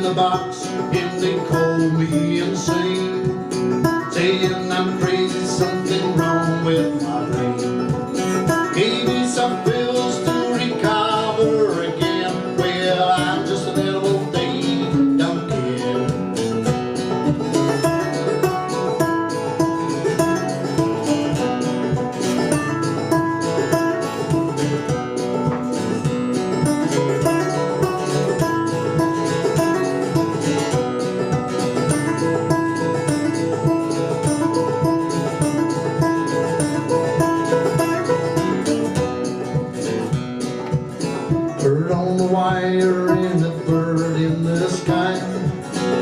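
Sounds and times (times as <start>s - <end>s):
acoustic country band playing: 0.0s - 46.0s
plucked string instruments: 0.0s - 46.0s.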